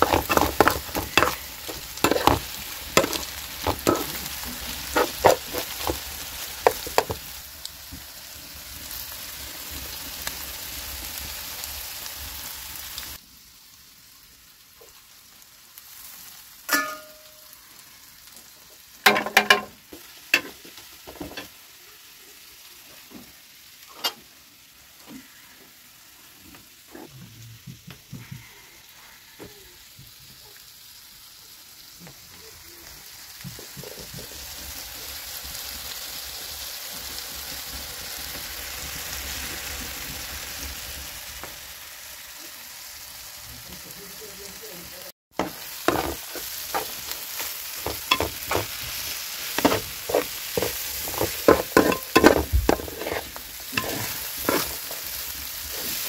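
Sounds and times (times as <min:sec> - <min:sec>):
vegetables sizzling in a pan: 0:00.0 - 0:56.0.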